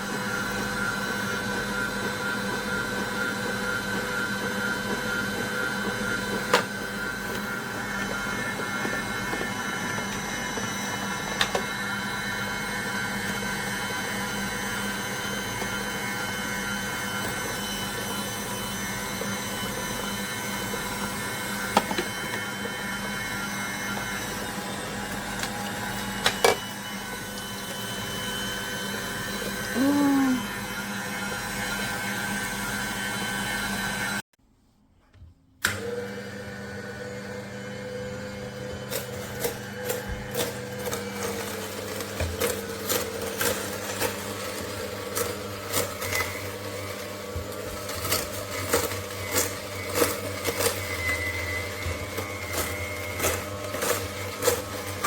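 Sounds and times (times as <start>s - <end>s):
juicer motor humming and whining: 0.0s - 34.2s, 35.6s - 55.0s.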